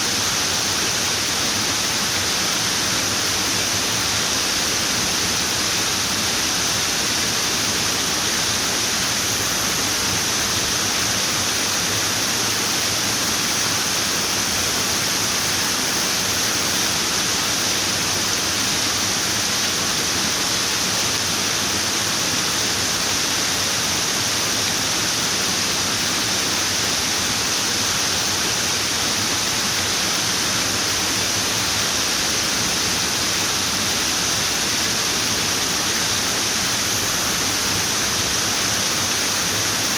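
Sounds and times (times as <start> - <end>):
running water hissing: 0.0 - 39.9.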